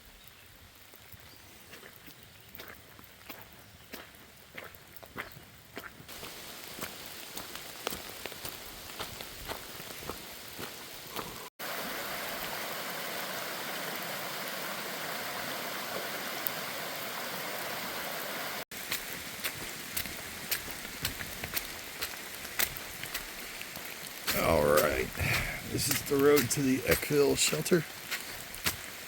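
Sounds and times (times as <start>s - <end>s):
rushing rain: 0.0s - 3.3s, 6.1s - 29.0s
raindrops pattering: 0.0s - 29.0s.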